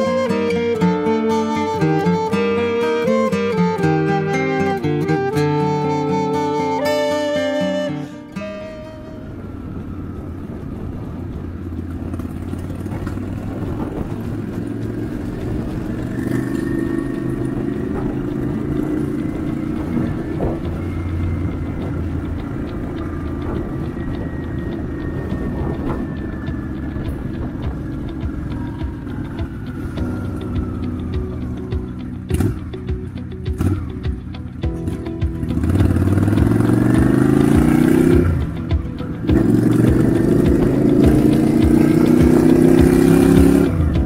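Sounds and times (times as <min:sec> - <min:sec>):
motorcycle engine rumble: 0:00.0 - 0:44.0
road noise: 0:00.0 - 0:44.0.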